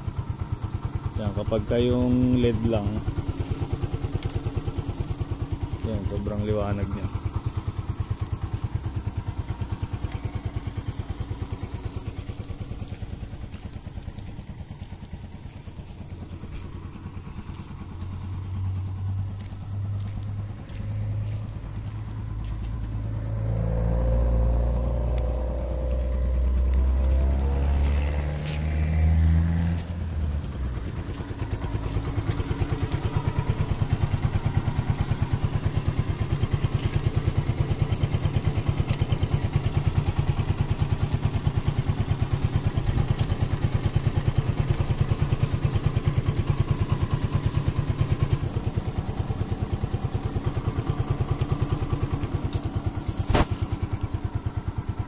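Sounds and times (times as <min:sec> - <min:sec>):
tricycle engine idling: 0:00.0 - 0:55.0
louder engine passing: 0:01.3 - 0:55.0.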